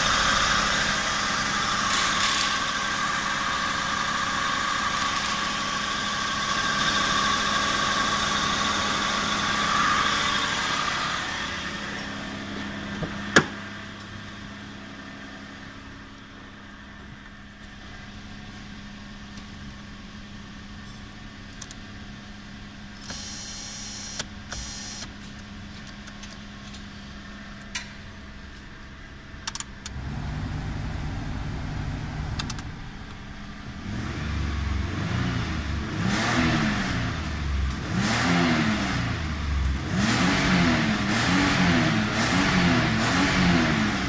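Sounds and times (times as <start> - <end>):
car engine running and revving: 0.0 - 27.6, 29.3 - 44.0.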